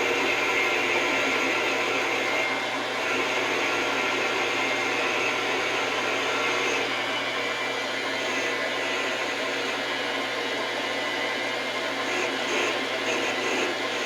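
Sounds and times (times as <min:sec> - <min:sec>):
metal lathe running and cutting: 0:00.0 - 0:14.0.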